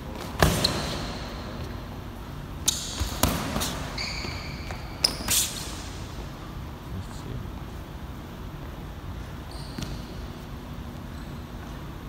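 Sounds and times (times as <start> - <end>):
sneakers squeaking on floor: 0.0 - 6.5, 8.6 - 12.0.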